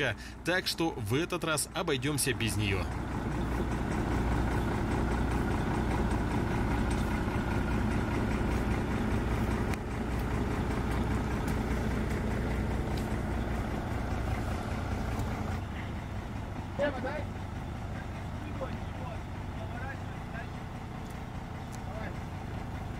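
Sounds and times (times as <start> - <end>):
vehicle engine low drone: 0.0 - 22.9.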